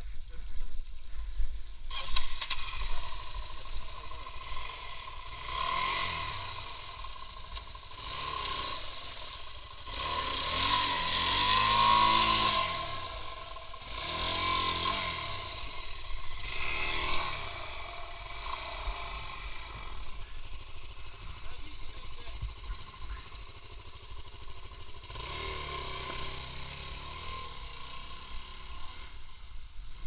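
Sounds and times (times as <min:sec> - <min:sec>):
small engine revving: 0:01.7 - 0:30.0.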